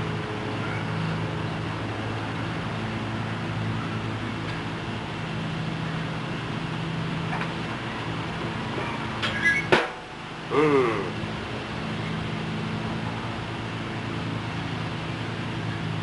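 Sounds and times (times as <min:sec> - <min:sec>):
mechanical hum with low drone: 0:00.0 - 0:16.0.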